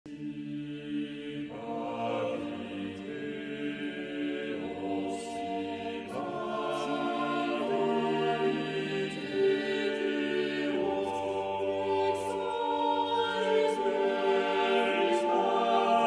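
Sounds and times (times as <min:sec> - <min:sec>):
chant-like vocal music: 0:00.1 - 0:16.0.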